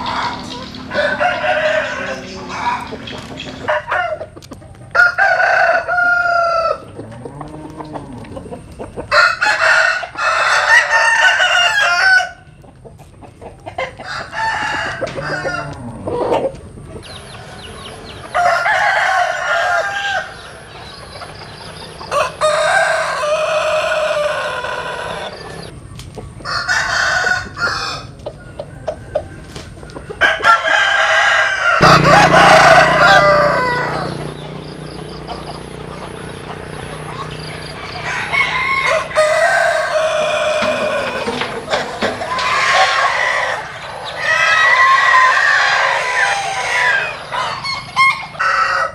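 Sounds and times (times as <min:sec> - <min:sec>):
roosters crowing: 0:00.0 - 0:25.7, 0:26.4 - 0:48.9
chicken clucking: 0:00.0 - 0:48.9.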